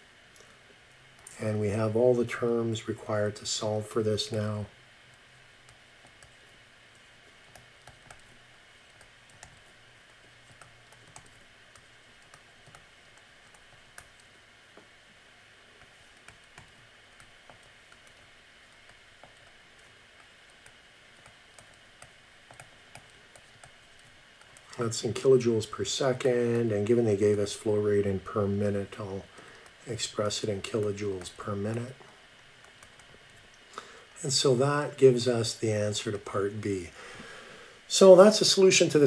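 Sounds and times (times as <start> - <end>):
low room hiss: 0.0 - 39.0.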